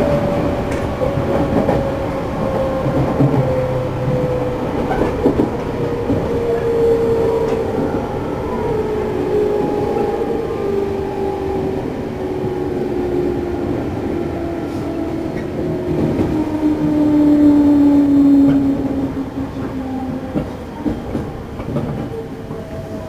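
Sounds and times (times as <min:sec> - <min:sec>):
rail joint clicks: 0:00.0 - 0:23.0.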